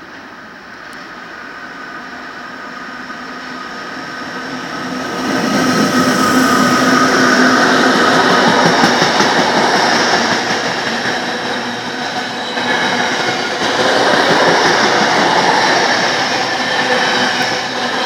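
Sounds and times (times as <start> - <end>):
electric locomotive hum and whine: 0.0 - 18.0
train wheels on rail: 0.0 - 18.0.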